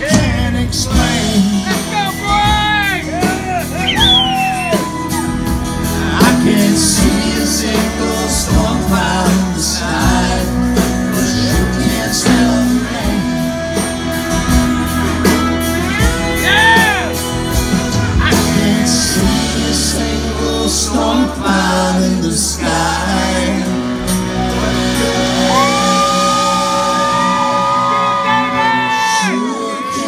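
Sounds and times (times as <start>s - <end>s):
person singing: 0.0s - 3.8s, 4.7s - 17.2s, 18.1s - 30.0s
country band playing live: 0.0s - 30.0s.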